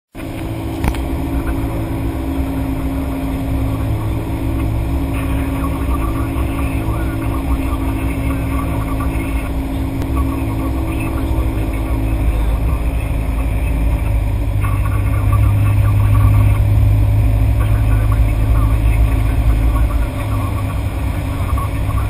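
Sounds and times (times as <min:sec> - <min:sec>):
light aircraft engine droning: 0:00.1 - 0:22.0.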